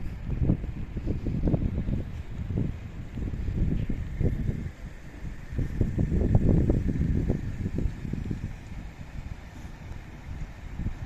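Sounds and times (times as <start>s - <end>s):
steady outdoor hiss: 0.0s - 11.0s
wind buffeting microphone: 0.0s - 11.0s.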